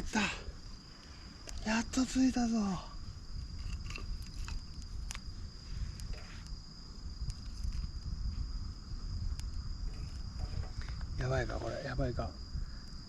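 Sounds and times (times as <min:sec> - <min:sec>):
campfire crackling and popping: 0:00.0 - 0:11.5
high insect trill: 0:00.0 - 0:13.0.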